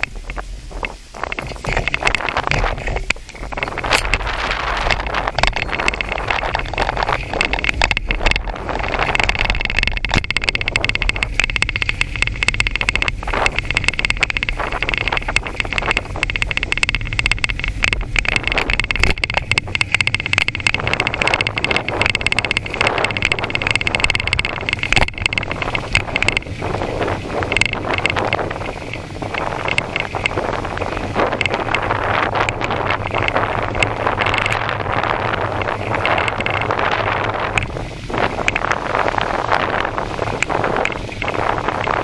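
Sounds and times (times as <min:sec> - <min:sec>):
bicycle tyre noise: 0:00.0 - 0:42.0
bike and metal basket rattling: 0:00.0 - 0:42.0
wind buffeting microphone: 0:00.0 - 0:42.0.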